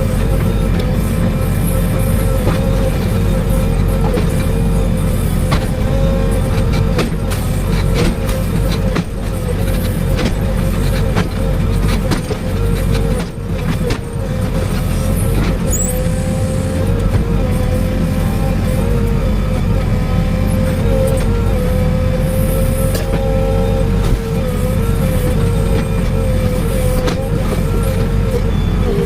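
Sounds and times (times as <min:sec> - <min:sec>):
excavator diesel engine under load: 0:00.0 - 0:29.0
held whine: 0:00.0 - 0:29.0.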